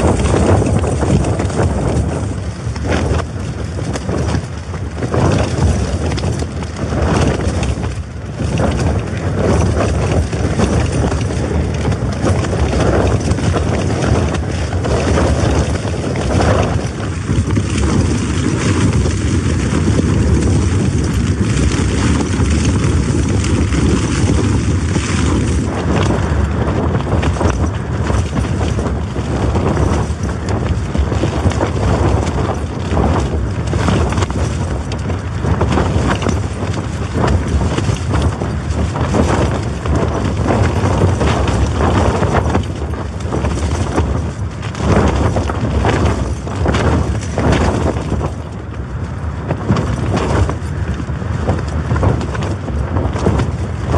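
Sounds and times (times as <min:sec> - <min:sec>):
tent fabric flapping: 0:00.0 - 0:53.9
wind roaring: 0:00.0 - 0:53.9.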